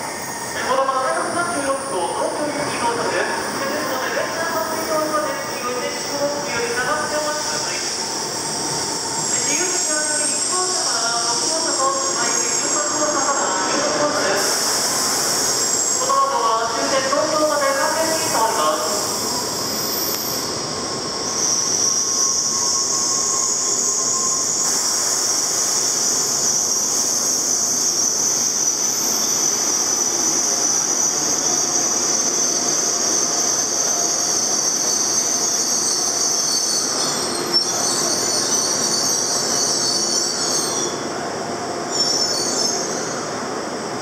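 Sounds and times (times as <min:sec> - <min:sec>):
train brake squeal: 0:03.8 - 0:41.1, 0:41.8 - 0:43.4.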